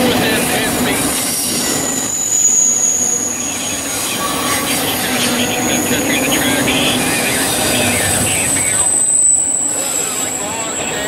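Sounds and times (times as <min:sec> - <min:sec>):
high wheel squeal: 0:00.0 - 0:11.0
train wheels rumbling on rail: 0:00.0 - 0:11.0.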